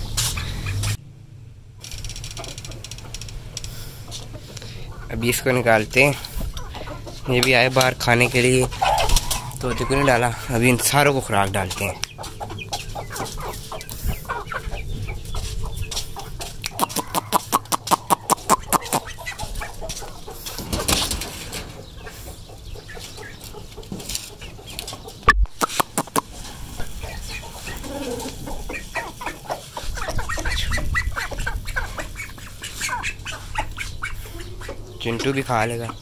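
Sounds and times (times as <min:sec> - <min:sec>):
chickens clucking: 0:00.0 - 0:01.0, 0:01.9 - 0:36.0.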